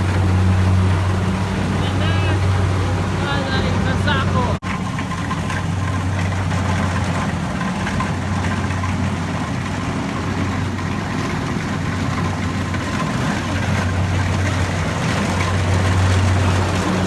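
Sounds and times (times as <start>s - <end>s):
harvester engine humming: 0.0s - 17.0s.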